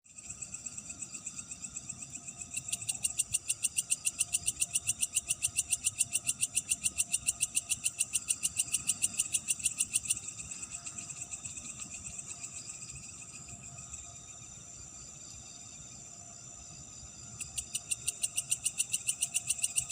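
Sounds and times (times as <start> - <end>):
insects trilling: 0.1 - 19.9.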